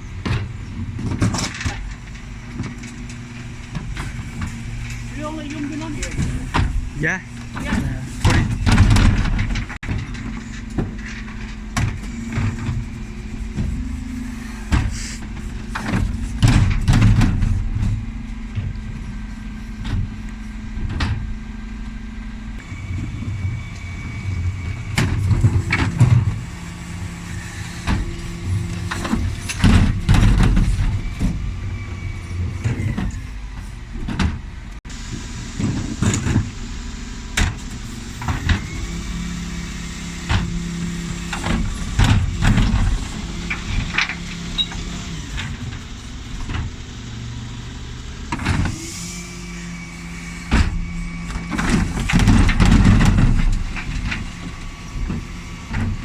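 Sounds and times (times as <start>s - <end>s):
wheelie bins knocking and clattering: 0.0s - 46.8s, 50.2s - 56.0s
lorry engine running: 0.0s - 56.0s.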